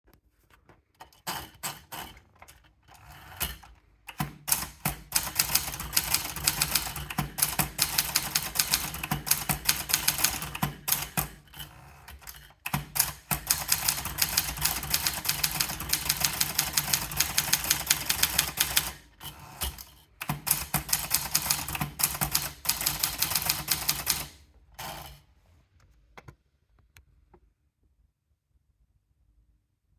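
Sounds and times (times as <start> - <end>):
manual typewriter typing fast: 1.0 - 25.2.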